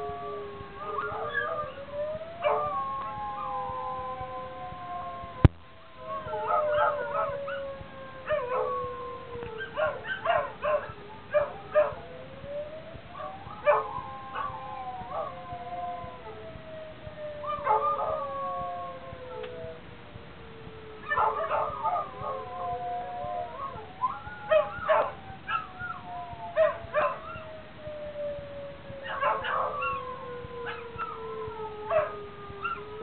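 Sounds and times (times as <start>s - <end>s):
dogs howling and yelping: 0.0s - 33.0s
warning siren wailing: 0.0s - 33.0s.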